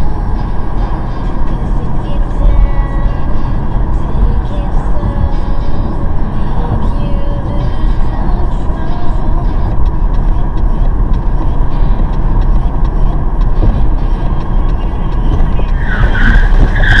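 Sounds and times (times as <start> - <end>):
car engine rumble: 0.0 - 17.0
high-pitched tone: 0.0 - 17.0
road noise: 0.0 - 17.0.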